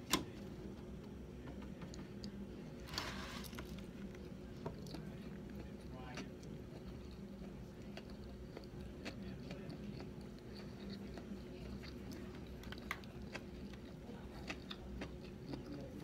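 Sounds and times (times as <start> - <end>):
low room hum: 0.0 - 16.0
person chewing: 3.0 - 16.0.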